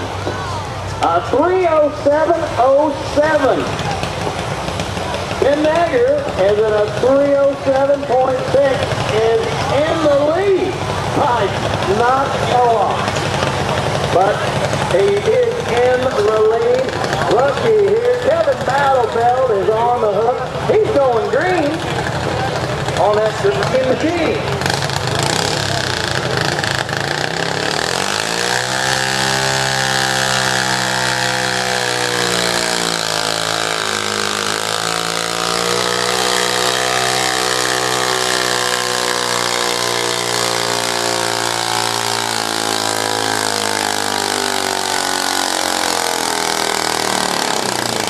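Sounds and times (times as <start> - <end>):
tractor engine revving at full throttle: 0.0 - 48.0.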